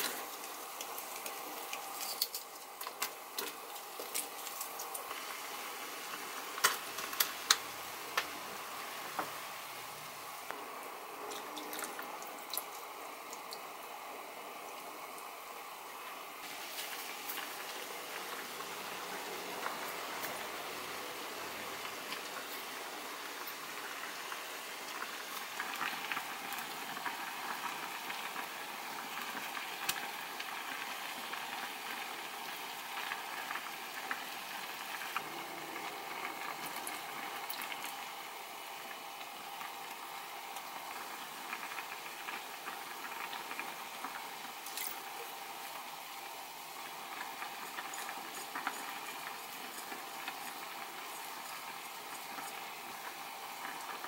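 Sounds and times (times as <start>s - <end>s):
broth bubbling and hissing: 0.0s - 54.0s.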